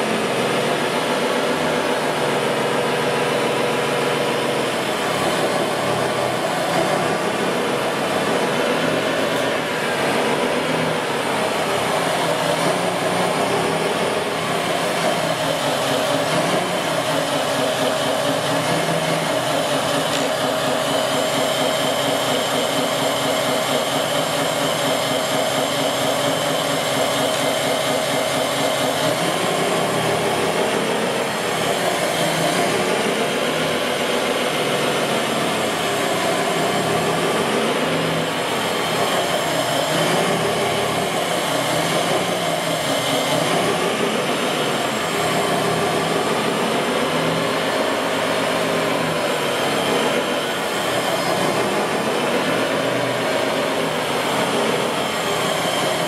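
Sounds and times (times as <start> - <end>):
steady whine: 0.0 - 56.0.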